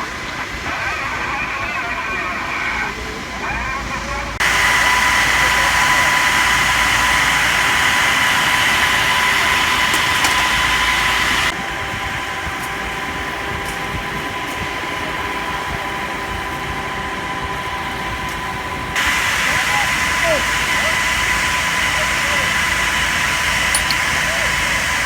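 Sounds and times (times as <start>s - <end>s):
fire engine motor running: 0.0s - 25.0s
water pump whine: 0.0s - 25.0s.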